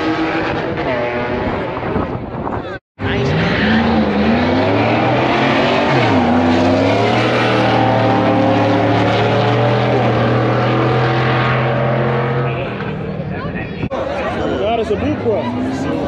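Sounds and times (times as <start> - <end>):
cars accelerating at full throttle: 0.0 - 16.0.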